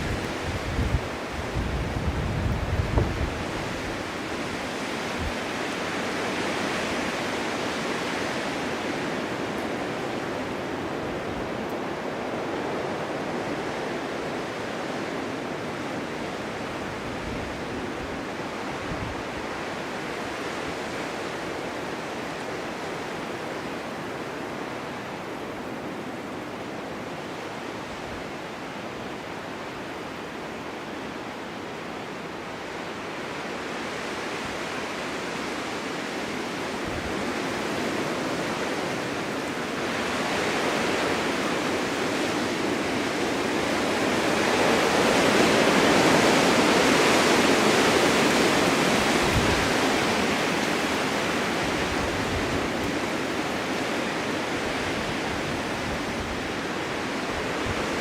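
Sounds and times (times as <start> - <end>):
strong wind blowing: 0.0 - 26.1, 36.8 - 58.0.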